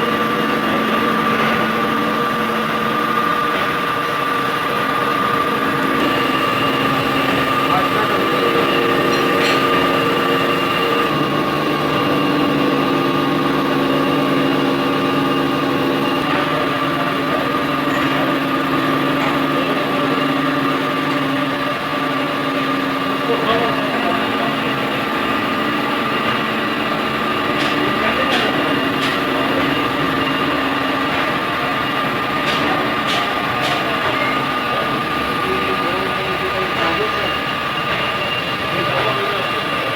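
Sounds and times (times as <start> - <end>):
grinding machine humming: 0.0 - 39.9.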